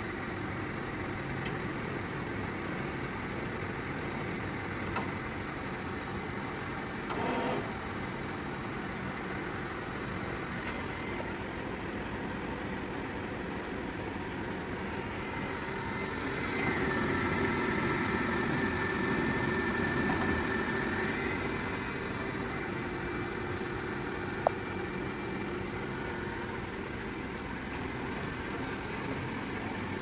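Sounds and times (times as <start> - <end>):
milling machine hum and whine: 0.0 - 30.0.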